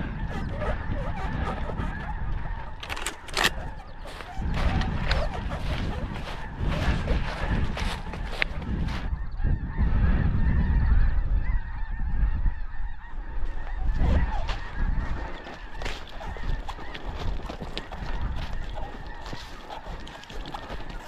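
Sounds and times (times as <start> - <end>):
geese honking: 0.0 - 21.0
wind buffeting microphone: 0.0 - 21.0.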